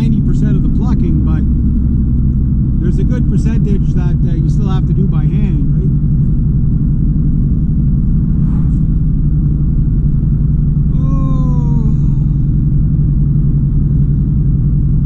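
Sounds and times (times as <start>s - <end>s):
engine rumble: 0.0s - 15.0s.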